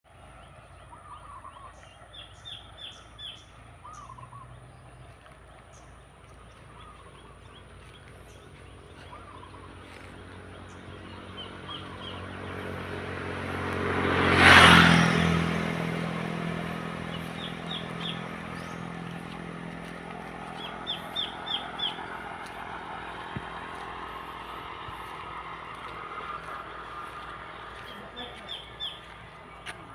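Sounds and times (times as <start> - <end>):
birds chirping: 0.1 - 29.9
motor vehicle passing by: 0.1 - 29.9.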